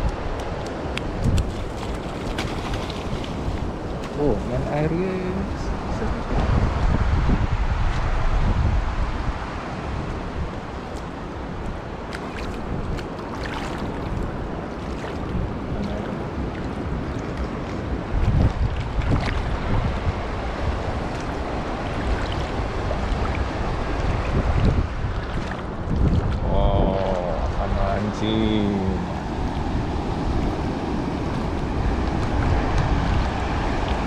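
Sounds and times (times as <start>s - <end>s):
surf washing onto beach: 0.0s - 34.0s
wind buffeting microphone: 0.0s - 34.0s.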